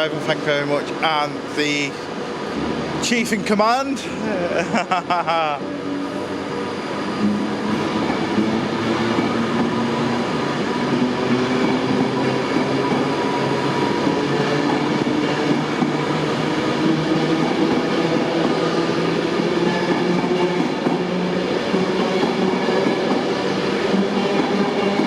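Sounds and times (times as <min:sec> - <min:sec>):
electric train hum: 0:00.0 - 0:25.0
wheels rushing on rails: 0:04.0 - 0:25.0.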